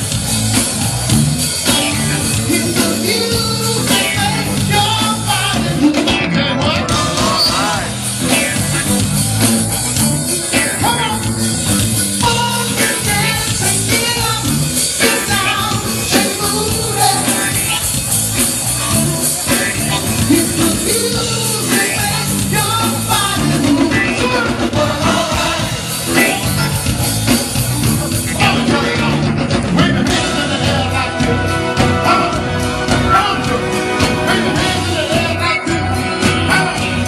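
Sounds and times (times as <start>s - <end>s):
bass line: 0.0s - 37.0s
drum kit: 0.0s - 37.0s
funk band playing: 0.0s - 37.0s
person singing: 1.9s - 8.7s, 12.2s - 18.0s, 18.6s - 26.7s, 28.0s - 37.0s.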